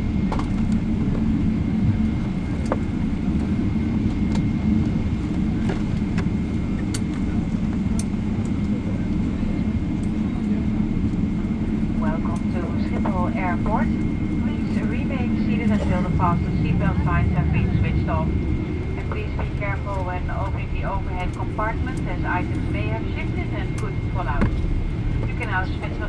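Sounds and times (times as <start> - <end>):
aircraft engines and wheels rumbling: 0.0 - 26.0.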